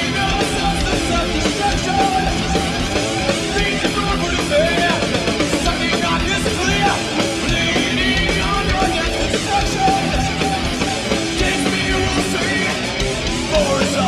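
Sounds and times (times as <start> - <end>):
metal band playing live: 0.0 - 14.0.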